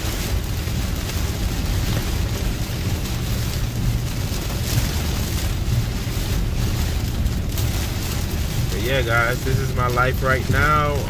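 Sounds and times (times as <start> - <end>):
car rumbling on wet road: 0.0 - 11.0
heavy rain on car roof: 0.0 - 11.0.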